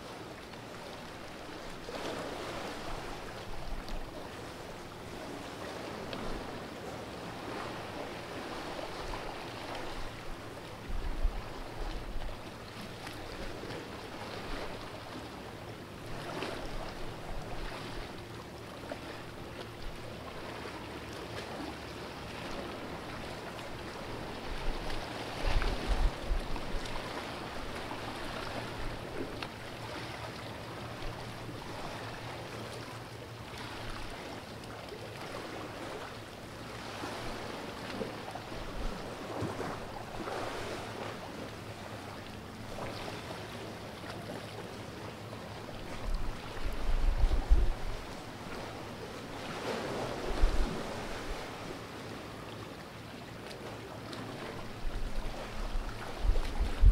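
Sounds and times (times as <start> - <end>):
water lapping against rocks: 0.0 - 6.6, 7.3 - 56.9.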